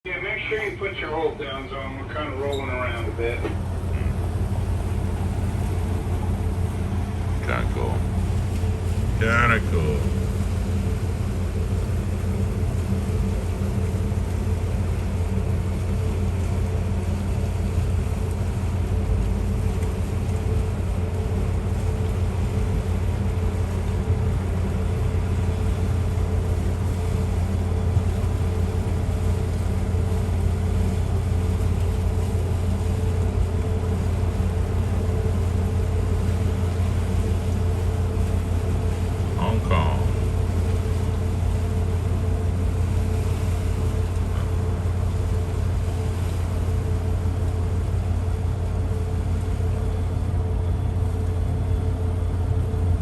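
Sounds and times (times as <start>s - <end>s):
boat diesel engine drone: 0.0s - 53.0s.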